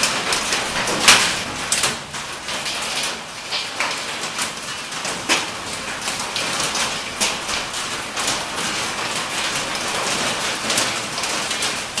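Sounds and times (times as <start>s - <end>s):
hail on sheet metal: 0.0s - 12.0s.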